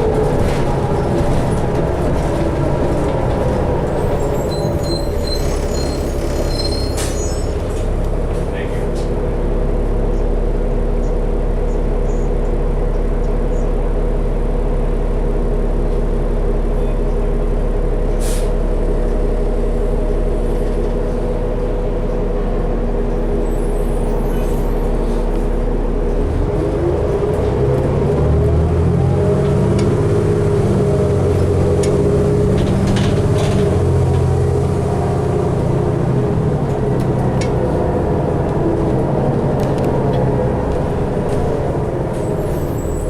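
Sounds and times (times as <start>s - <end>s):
bus engine humming: 0.0s - 43.0s.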